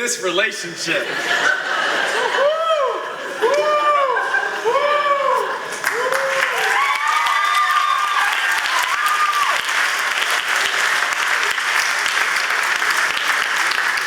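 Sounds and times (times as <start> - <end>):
audience applauding: 1.4 - 14.0.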